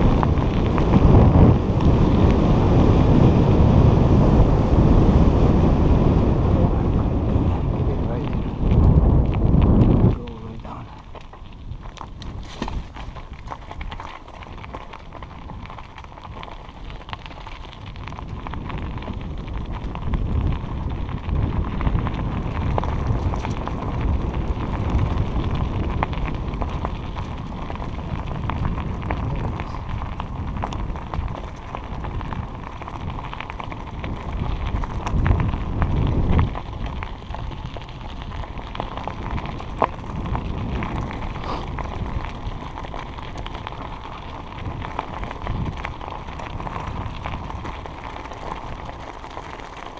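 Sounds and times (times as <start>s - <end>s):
bike tyres crackling on trail: 0.0s - 49.9s
wind buffeting microphone: 0.0s - 49.9s.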